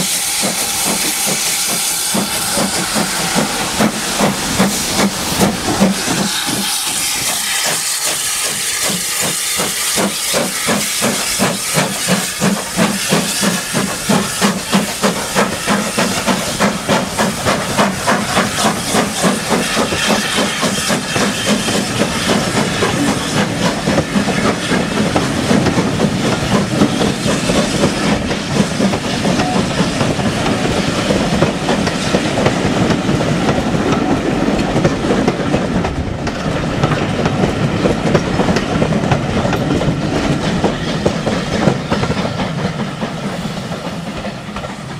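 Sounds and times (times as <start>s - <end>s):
steam hissing: 0.0s - 44.9s
steam locomotive chuffing: 0.0s - 44.9s
wheels rattling over rail joints: 0.0s - 44.9s.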